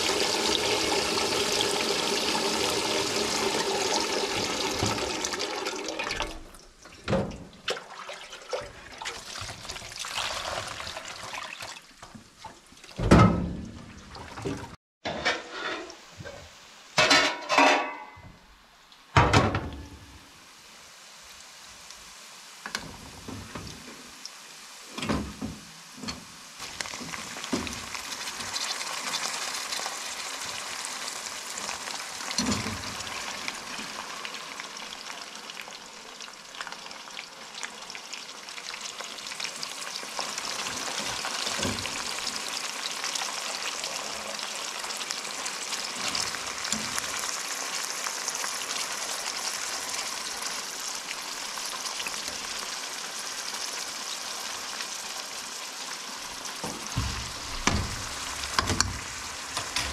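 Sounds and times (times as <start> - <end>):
food sizzling in a pan: 0.0 - 7.1, 7.8 - 13.0, 13.8 - 59.9.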